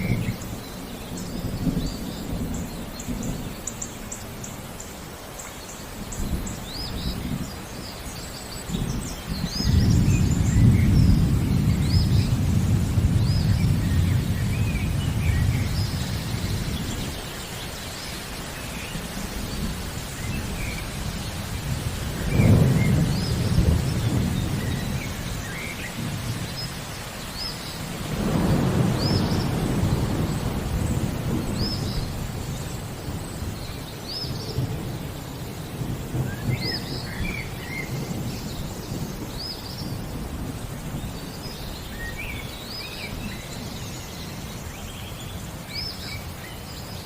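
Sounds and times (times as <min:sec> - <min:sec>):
low thunder rumble: 0:00.0 - 0:04.4, 0:06.0 - 0:17.8, 0:18.5 - 0:46.0
birds chirping and whistling: 0:00.0 - 0:35.4, 0:36.2 - 0:40.2, 0:41.0 - 0:47.0
steady rain: 0:00.0 - 0:47.0.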